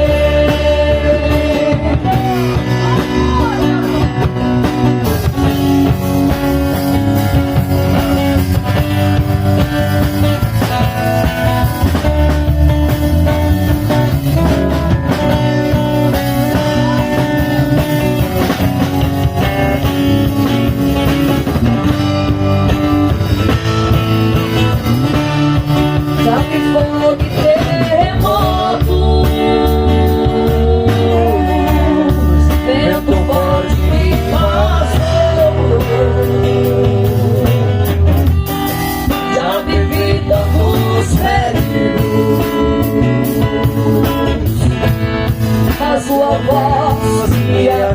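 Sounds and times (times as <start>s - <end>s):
gospel band playing: 0.0s - 47.9s
guitar: 0.0s - 47.9s.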